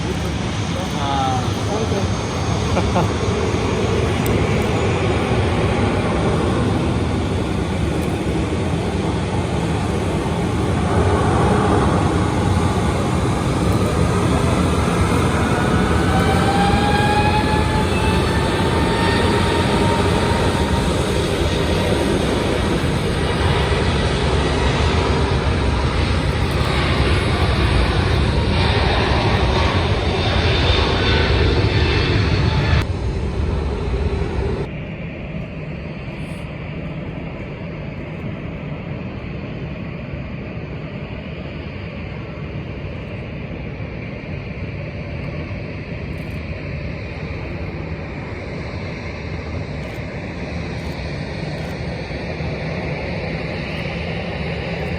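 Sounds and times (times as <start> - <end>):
jet engine rushing: 0.0 - 54.9.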